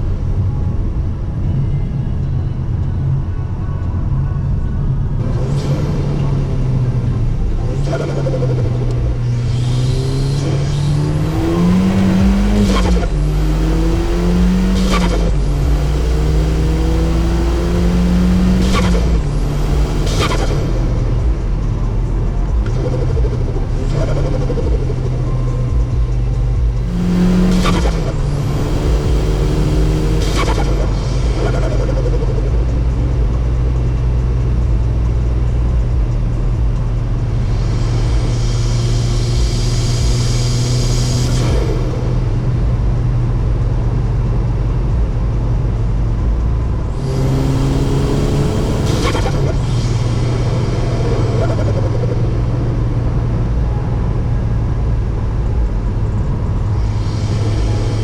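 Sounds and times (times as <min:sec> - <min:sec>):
turbocharged car engine accelerating: 0:00.0 - 0:58.0.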